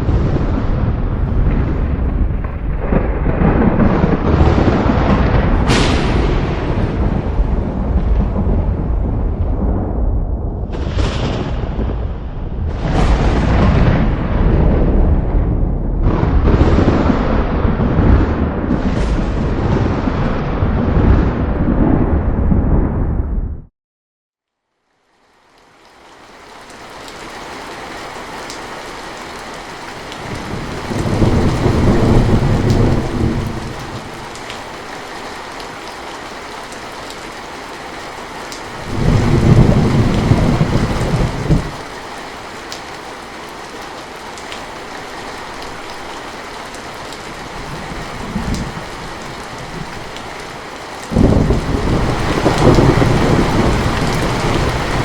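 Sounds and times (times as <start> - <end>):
steady rain: 0.0 - 22.6, 24.5 - 55.0
thunder rolling: 0.0 - 23.7, 29.3 - 55.0.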